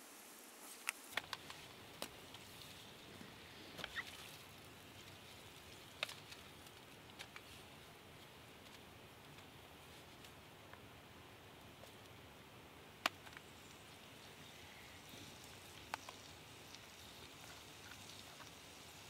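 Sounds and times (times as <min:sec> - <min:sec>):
steady low hiss: 0:00.0 - 0:19.0
faint clicks and crackles: 0:00.5 - 0:10.9, 0:13.0 - 0:19.0.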